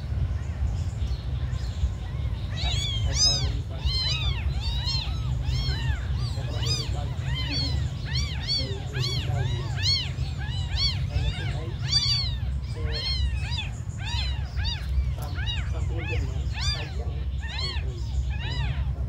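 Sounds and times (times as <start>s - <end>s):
kittens mewing: 0.1s - 19.0s.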